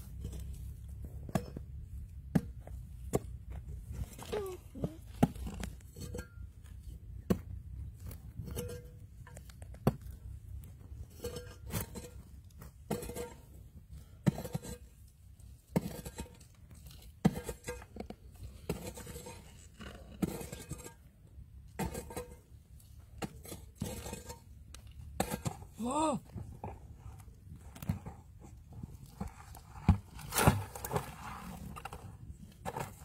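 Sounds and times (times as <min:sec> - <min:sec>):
scraping of earth: 0:00.0 - 0:33.0.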